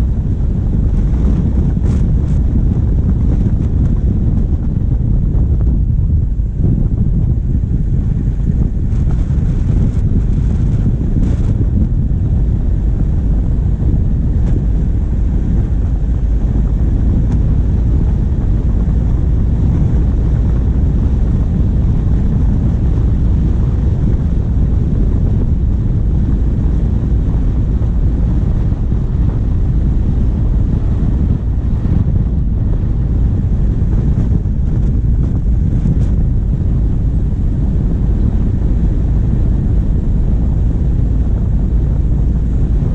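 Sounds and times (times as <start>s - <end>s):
diesel engine running: 0.0s - 42.9s
wind rumbling on microphone: 0.0s - 42.9s.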